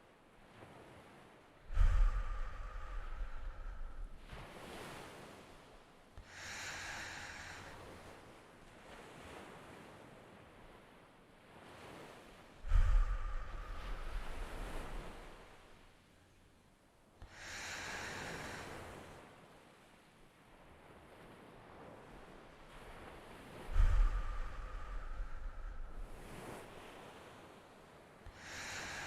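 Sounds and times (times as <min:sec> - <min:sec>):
ocean surf: 0:00.5 - 0:16.0, 0:17.2 - 0:29.0.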